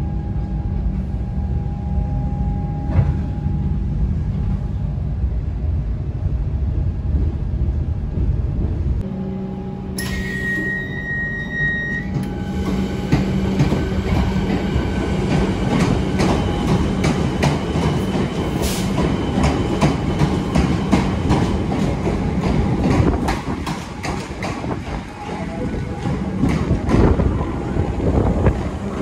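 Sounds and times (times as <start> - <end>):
rail vehicle hum: 0.0 - 29.0.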